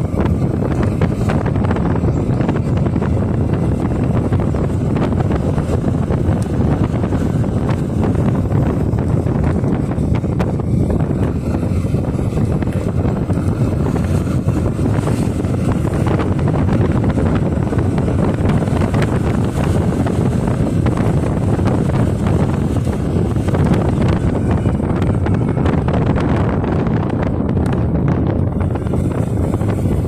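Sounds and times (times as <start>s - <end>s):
motorcycle running: 0.0s - 30.0s
road noise: 0.0s - 30.0s
wind buffeting microphone: 0.0s - 30.0s.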